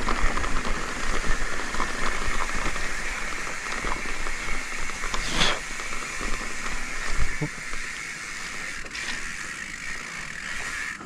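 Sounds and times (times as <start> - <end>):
bike tyres rattling on grass: 0.0 - 11.0.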